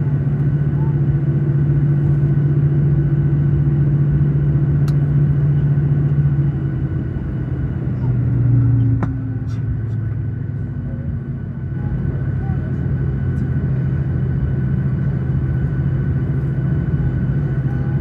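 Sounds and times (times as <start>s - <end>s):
aircraft cabin engine hum: 0.0s - 18.0s.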